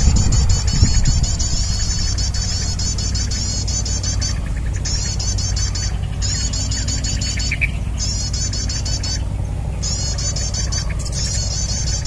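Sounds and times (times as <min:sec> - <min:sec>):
bird call from speaker: 0:00.0 - 0:12.0
wind rumble on microphone: 0:00.0 - 0:12.0.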